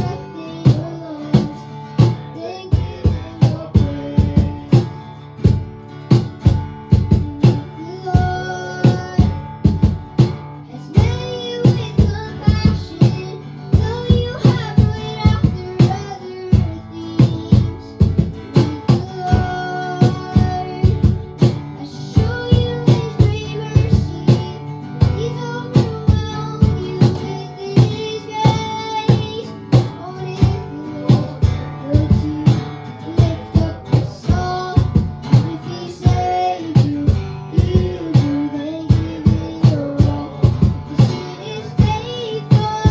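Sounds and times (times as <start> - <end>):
people singing: 0.0 - 5.0, 10.7 - 42.9
drum beat: 0.0 - 42.9
guitar: 0.0 - 42.9.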